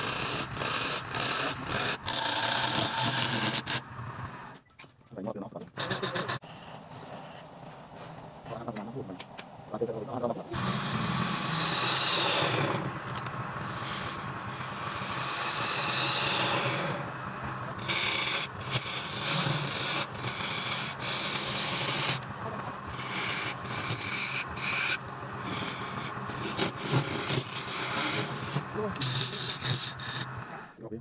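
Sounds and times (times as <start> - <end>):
wood lathe running: 0.0 - 4.2, 5.8 - 6.4, 10.6 - 30.7
tool rasping on spinning wood: 0.0 - 4.3, 5.7 - 7.8, 10.6 - 30.6.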